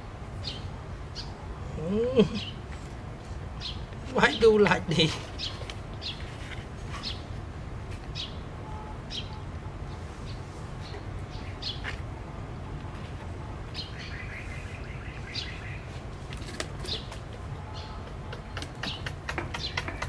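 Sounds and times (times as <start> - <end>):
small birds chirping: 0.4 - 7.4, 8.1 - 12.1, 13.7 - 20.0.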